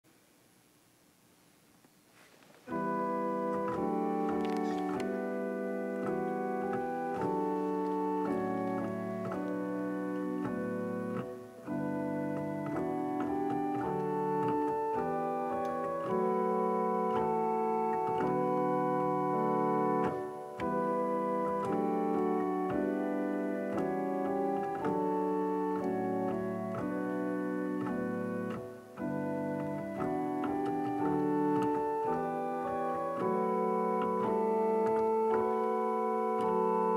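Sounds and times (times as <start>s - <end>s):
church organ chords: 2.7s - 36.9s.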